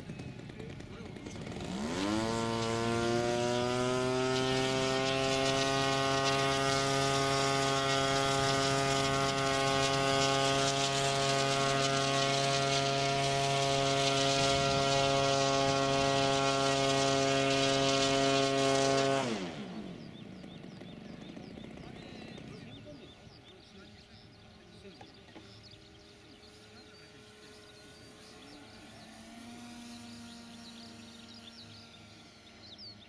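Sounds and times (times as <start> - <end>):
electric model plane motor whine: 0.0 - 22.7, 24.2 - 33.0.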